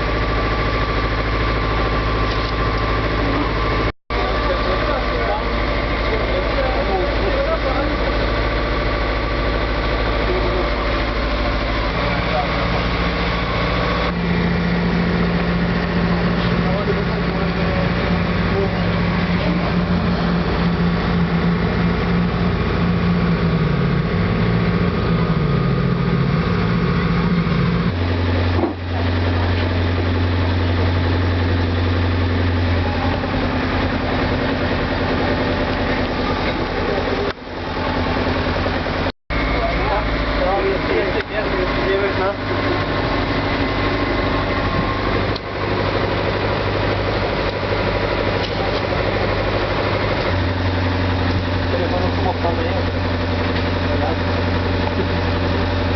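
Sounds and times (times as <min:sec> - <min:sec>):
boat engine droning: 0:00.0 - 0:55.9.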